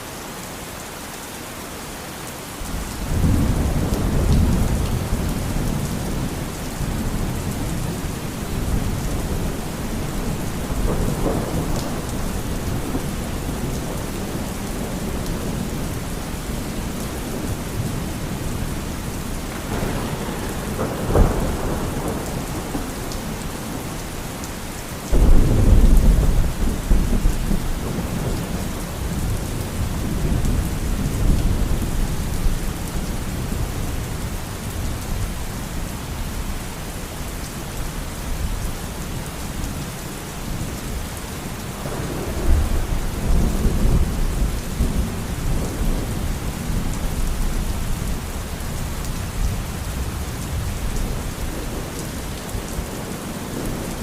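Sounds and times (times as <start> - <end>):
heavy rain: 0.0 - 54.0
rolling thunder: 2.7 - 24.0, 25.1 - 35.1, 41.7 - 54.0.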